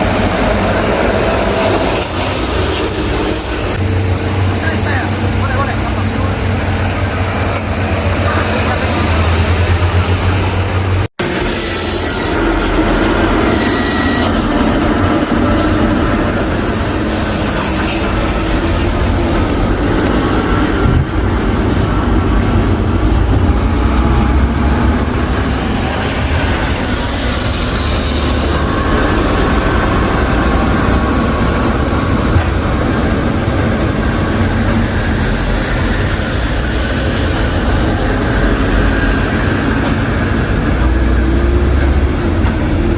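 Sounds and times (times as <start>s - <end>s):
heavy diesel machinery rumbling: 0.0s - 42.9s.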